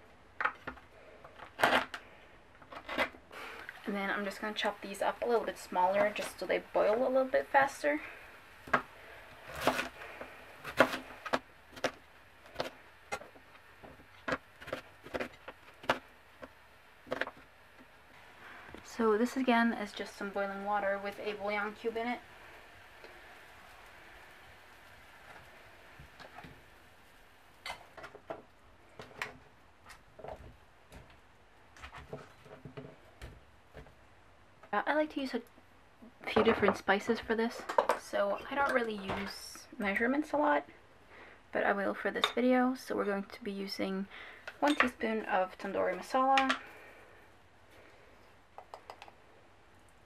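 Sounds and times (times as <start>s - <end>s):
faint steady hiss: 0.0s - 50.0s.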